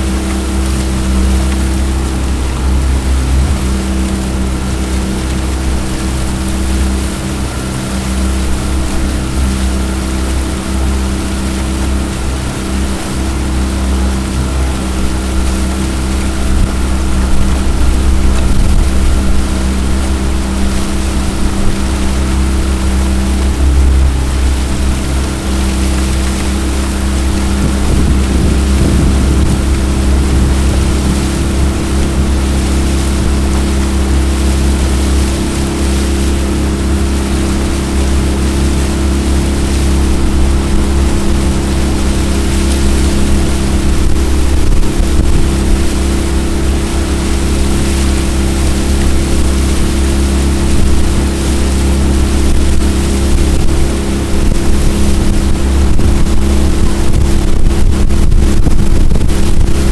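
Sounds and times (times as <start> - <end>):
boat motor running: 0.0 - 59.9
rush of wind and water: 0.0 - 59.9.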